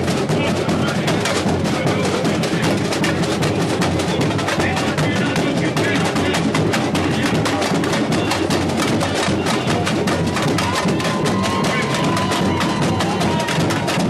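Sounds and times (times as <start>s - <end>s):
deep bass drums: 0.0s - 14.0s.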